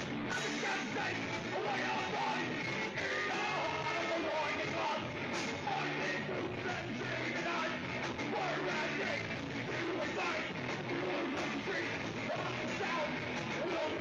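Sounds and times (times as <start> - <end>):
punk rock song: 0.0 - 14.0
shouted vocals: 0.3 - 14.0.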